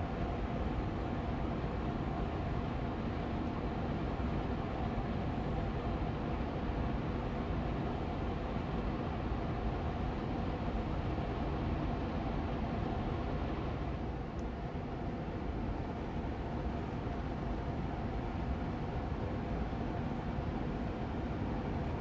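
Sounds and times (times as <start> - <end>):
air purifier fan running: 0.0 - 22.0.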